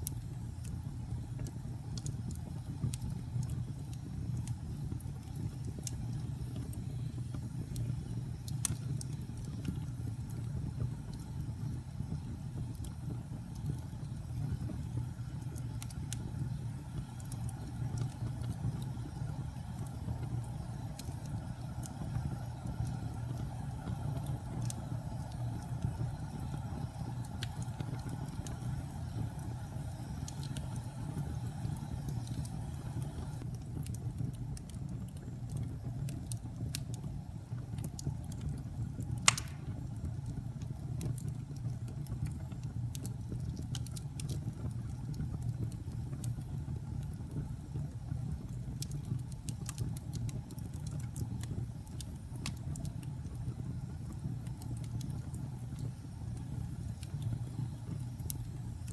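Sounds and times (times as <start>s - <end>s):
fire crackling and popping: 0.0s - 58.9s
wood fire burning: 0.0s - 58.9s.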